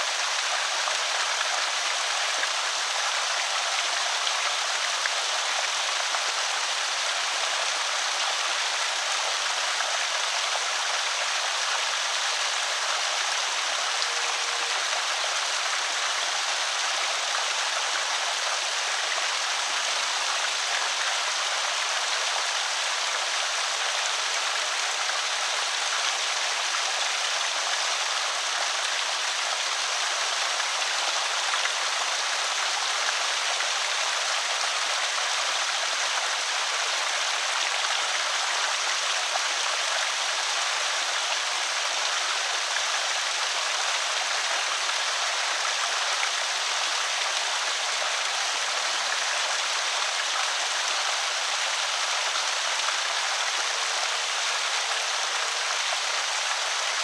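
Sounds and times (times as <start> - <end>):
water pouring over spillway: 0.0 - 57.0.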